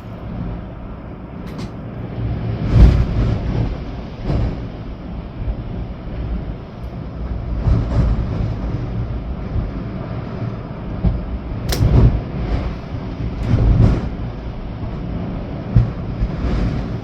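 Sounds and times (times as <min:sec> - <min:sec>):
rain: 0:00.0 - 0:17.0
storm wind gusting through trees: 0:00.0 - 0:17.0.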